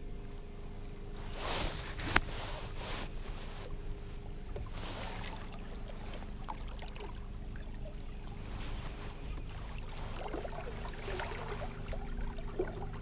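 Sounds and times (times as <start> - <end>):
trolling motor electric hum: 0.0 - 13.0.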